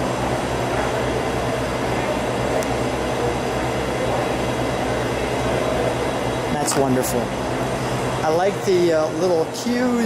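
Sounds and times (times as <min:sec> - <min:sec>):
exhibition hall roar: 0:00.0 - 0:10.0.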